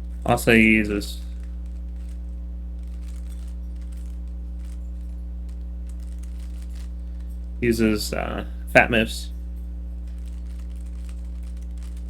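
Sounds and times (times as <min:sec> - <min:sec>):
puzzle cube plastic clicks: 0:00.0 - 0:08.4, 0:10.1 - 0:12.0
low electrical hum: 0:00.0 - 0:12.0.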